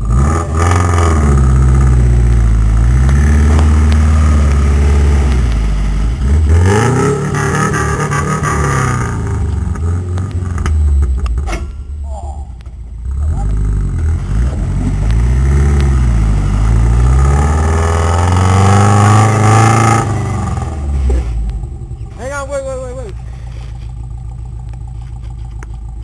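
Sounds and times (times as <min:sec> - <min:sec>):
car engine revving: 0:00.0 - 0:25.7.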